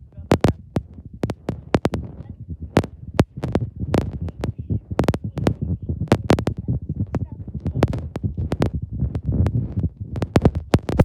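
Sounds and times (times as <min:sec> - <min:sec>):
sharp clicks and knocks: 0:00.3 - 0:11.0.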